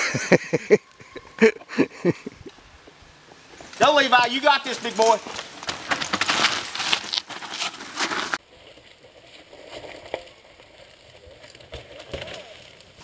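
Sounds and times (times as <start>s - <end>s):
bike tyres crunching over leaves: 2.5s - 13.0s.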